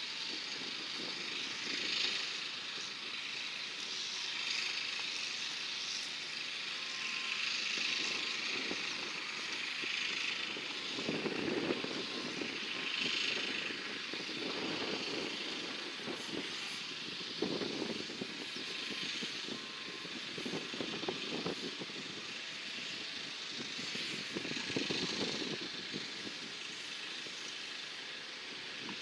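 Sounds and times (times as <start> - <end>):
hiss-like outdoor rush: 0.0 - 29.0.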